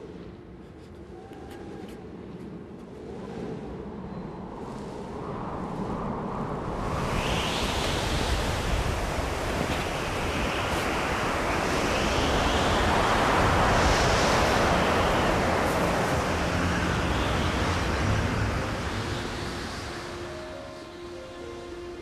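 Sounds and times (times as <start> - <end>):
blizzard wind gusting: 0.0 - 22.0.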